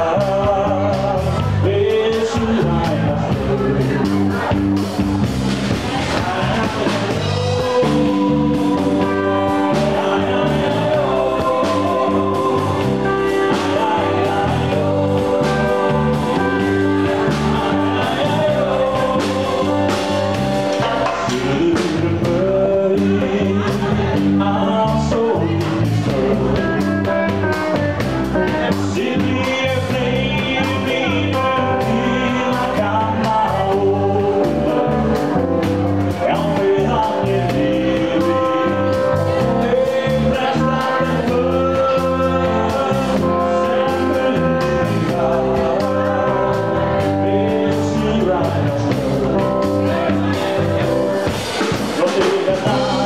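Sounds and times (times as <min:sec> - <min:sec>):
man singing into microphone: 0:00.0 - 0:04.6, 0:05.9 - 0:53.0
live band with drum kit: 0:00.0 - 0:53.0.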